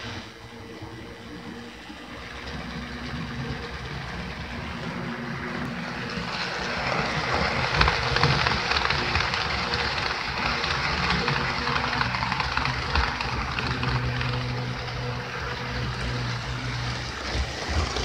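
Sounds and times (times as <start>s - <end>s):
model train wheels clicking: 0.0s - 18.0s
small electric motor humming: 0.0s - 18.0s.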